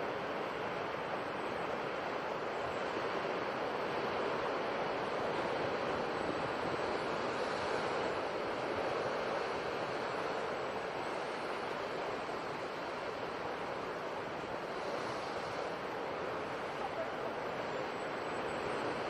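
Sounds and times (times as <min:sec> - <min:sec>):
waves washing in: 0:00.0 - 0:19.0.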